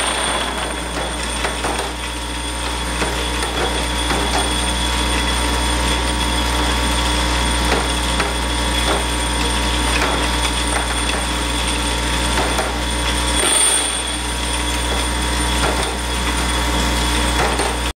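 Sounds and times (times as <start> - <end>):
vibrating drive humming: 0.0 - 17.9.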